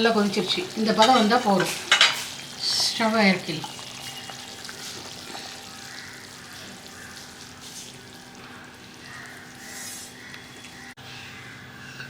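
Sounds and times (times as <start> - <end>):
thick gravy bubbling: 0.0 - 10.9.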